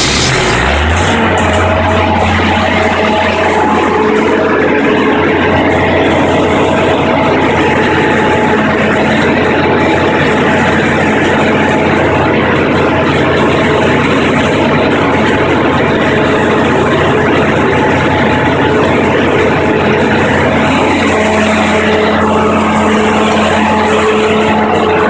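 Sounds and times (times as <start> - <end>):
generator engine droning: 0.0 - 25.0.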